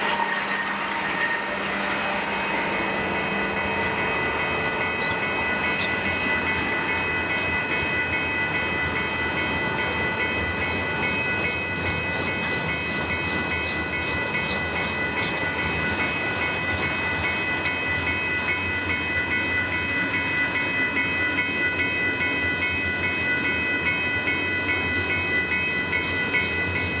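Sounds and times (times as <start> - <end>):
high-pitched ringing tones: 0.0 - 27.0
train wheels rumbling and clicking: 0.9 - 27.0.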